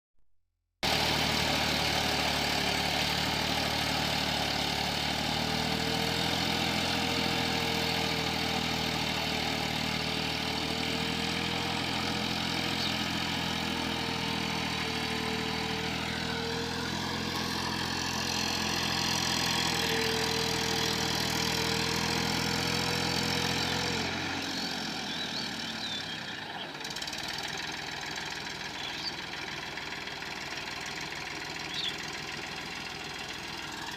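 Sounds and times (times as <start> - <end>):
tractor engine idling: 0.8 - 33.9.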